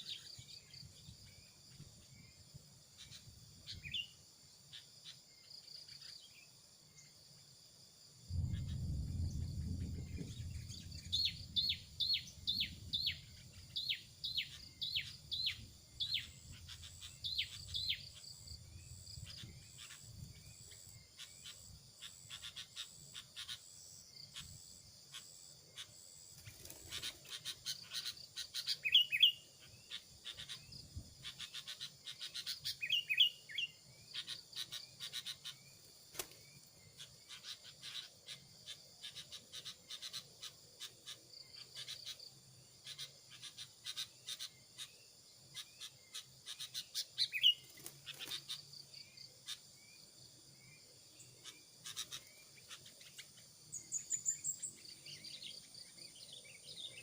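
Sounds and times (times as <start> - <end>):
small birds chirping: 0.0 - 7.6, 8.3 - 57.0
insects droning: 0.0 - 57.0.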